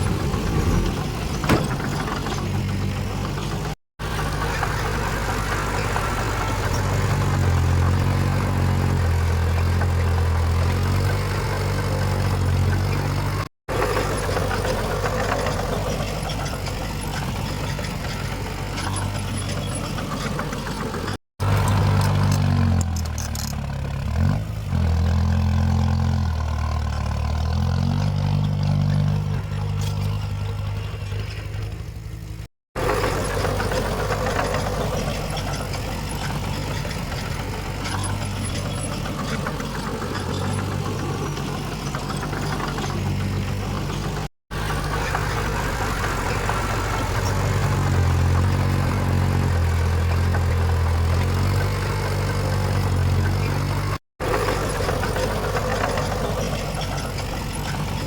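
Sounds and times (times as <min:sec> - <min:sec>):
heavy diesel machines running: 0:00.0 - 0:58.0.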